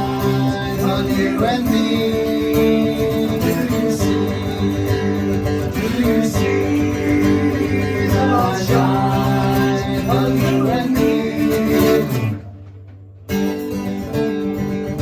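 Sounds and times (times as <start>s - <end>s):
country band playing: 0.0s - 15.0s
strummed acoustic guitar: 0.0s - 15.0s.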